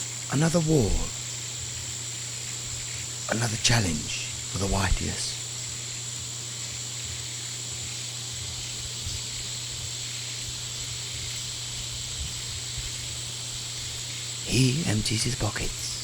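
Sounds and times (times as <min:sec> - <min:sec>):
low even hum: 0:00.0 - 0:16.0
steady hiss: 0:00.0 - 0:16.0.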